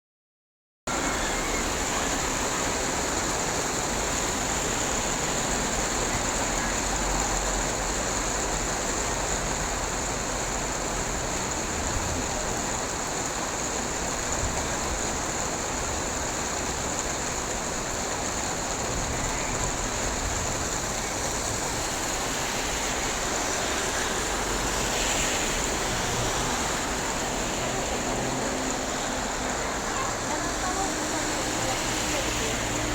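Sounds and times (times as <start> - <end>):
rain falling steadily: 0.9 - 32.9.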